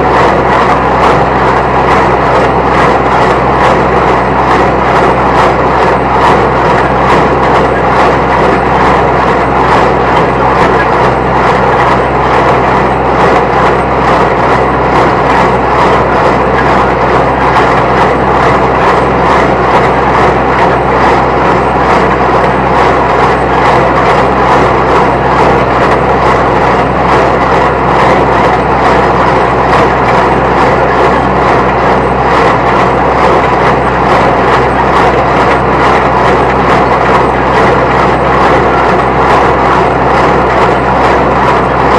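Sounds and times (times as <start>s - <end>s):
baler working strokes: 0.0s - 41.9s
tractor engine running: 0.0s - 41.9s.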